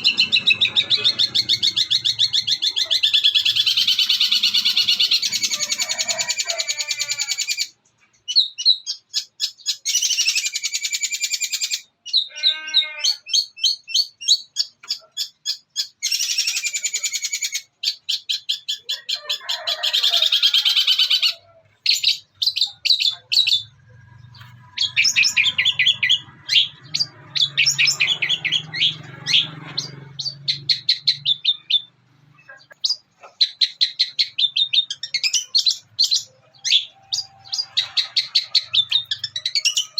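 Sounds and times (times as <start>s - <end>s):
bird singing fast chattering song: 0.0s - 5.8s, 6.7s - 12.3s, 13.2s - 19.0s, 20.8s - 39.9s.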